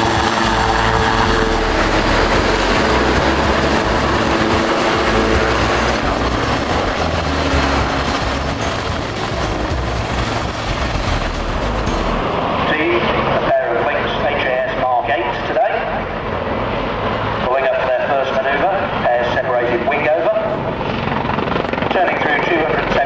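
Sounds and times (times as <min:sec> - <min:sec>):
helicopter rotor blades chopping: 0:00.0 - 0:23.0
turbine engine tone: 0:00.0 - 0:23.0.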